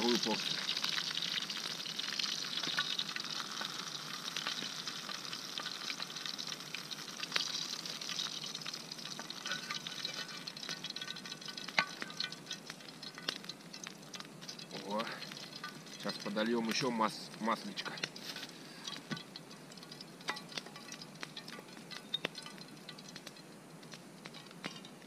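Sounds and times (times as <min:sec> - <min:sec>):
oil sizzling in a frying pan: 0:00.0 - 0:25.0.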